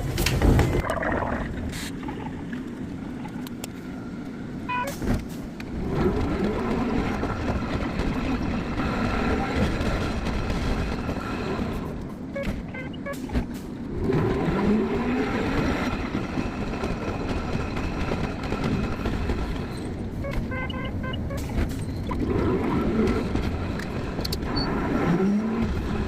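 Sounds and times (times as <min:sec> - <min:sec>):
streetcar rumbling: 0:00.0 - 0:01.9, 0:02.7 - 0:26.0.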